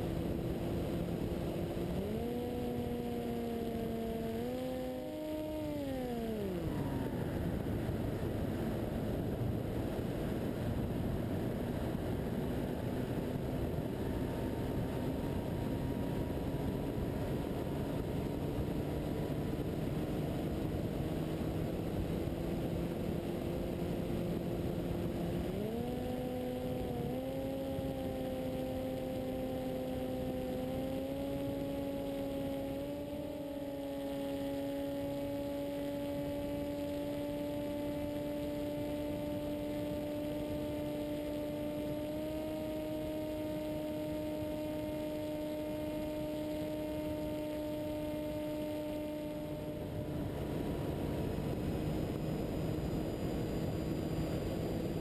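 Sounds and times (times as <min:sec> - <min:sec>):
model plane motor drone: 0:00.0 - 0:55.0.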